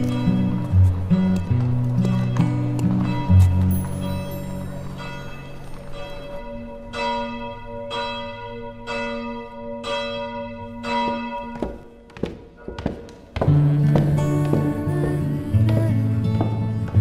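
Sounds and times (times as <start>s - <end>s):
church bell tolling: 0.0s - 14.9s.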